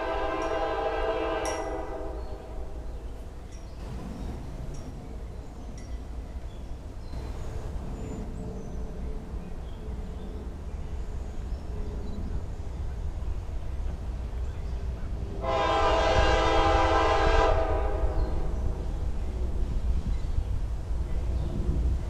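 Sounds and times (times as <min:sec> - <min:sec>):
distant train rumble: 0:00.0 - 0:22.0.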